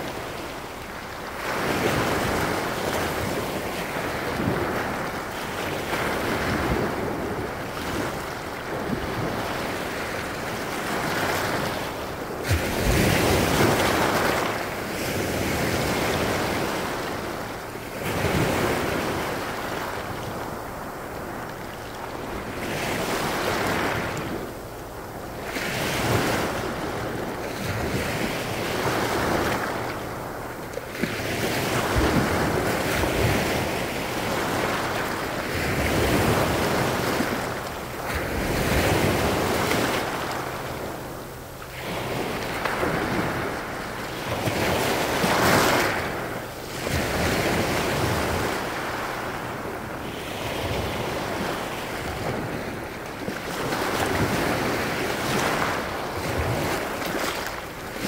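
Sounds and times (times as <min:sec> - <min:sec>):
waves washing over pebbles: 0:00.0 - 0:58.0.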